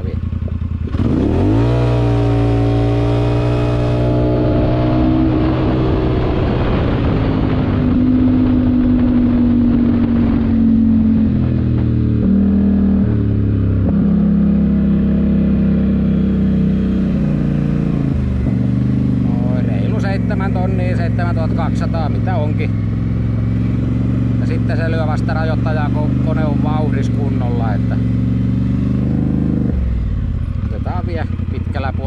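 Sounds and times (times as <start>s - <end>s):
atv engine revving hard: 0.8s - 32.0s.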